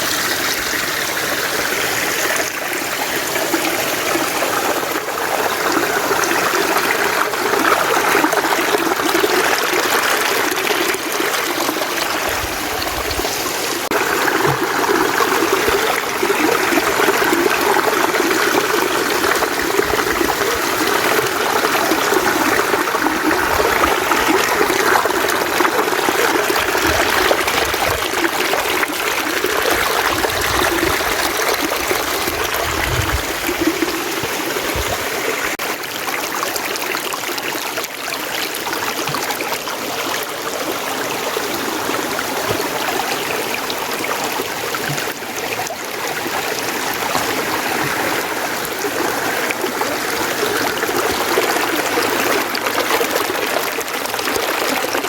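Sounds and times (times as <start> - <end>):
stream flowing water: 0.0 - 55.0.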